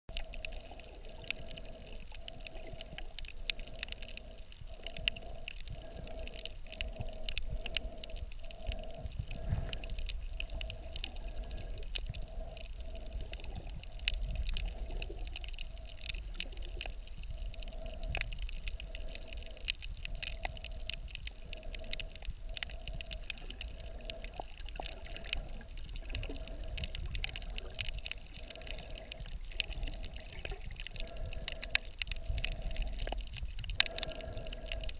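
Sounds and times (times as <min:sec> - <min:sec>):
small crackling clicks: 0:00.1 - 0:34.9
underwater water wash: 0:00.1 - 0:34.9.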